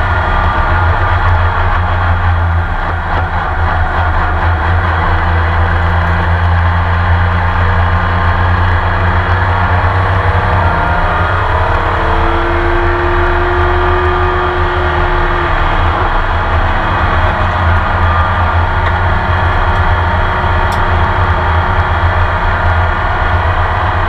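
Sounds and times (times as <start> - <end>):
race car engine running: 0.0 - 24.0.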